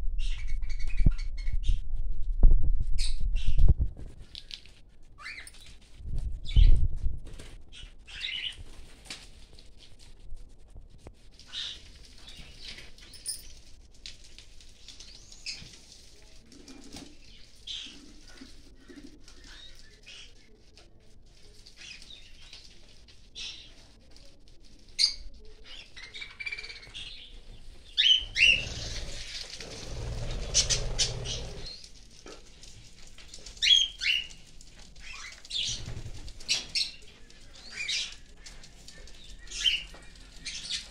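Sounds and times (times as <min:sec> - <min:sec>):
rustling: 0:02.1 - 0:40.9.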